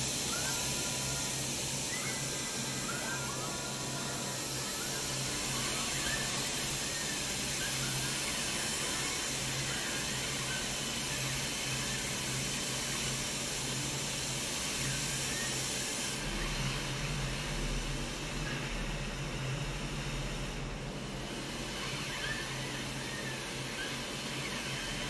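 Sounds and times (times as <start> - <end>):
hiss of paint spray: 0.0 - 25.0.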